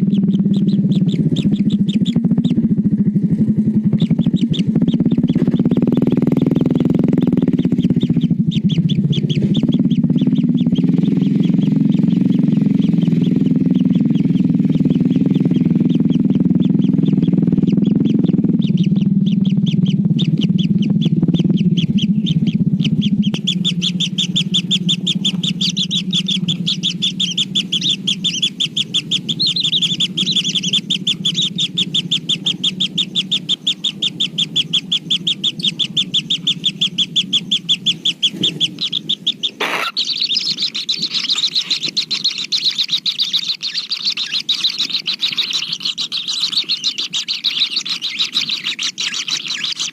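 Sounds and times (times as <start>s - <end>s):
chicks chirping rapidly: 0.0s - 49.9s
steady low hum: 0.0s - 49.9s.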